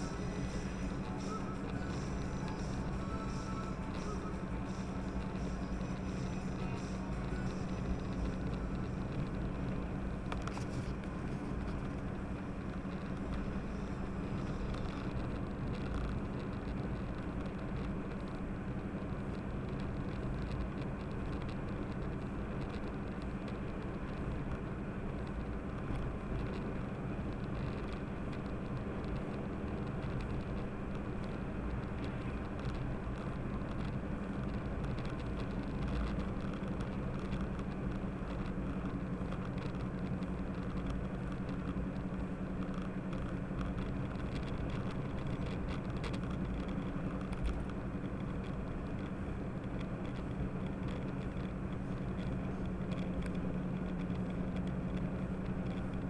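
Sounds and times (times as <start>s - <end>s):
low engine drone: 0.0s - 56.0s
tyre and road noise: 0.0s - 56.0s.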